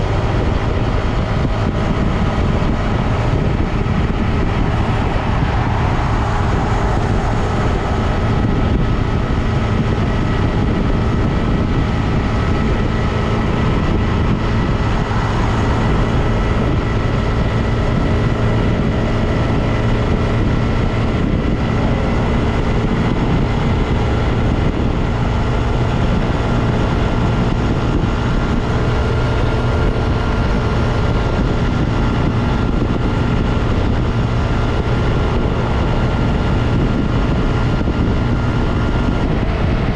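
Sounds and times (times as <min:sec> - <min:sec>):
high whine: 0:00.0 - 0:39.9
motorcycle engine running: 0:00.0 - 0:39.9
wind rumble: 0:00.0 - 0:39.9.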